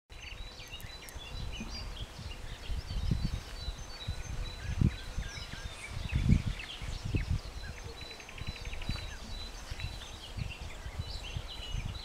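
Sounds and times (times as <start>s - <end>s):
songbirds chirping and twittering: 0.1s - 12.0s.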